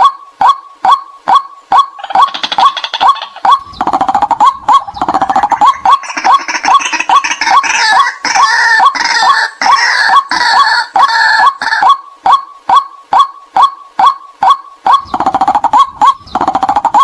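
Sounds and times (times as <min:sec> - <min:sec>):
waterhens calling kwak: 0:00.0 - 0:17.0
chattering bird chorus: 0:00.8 - 0:17.0.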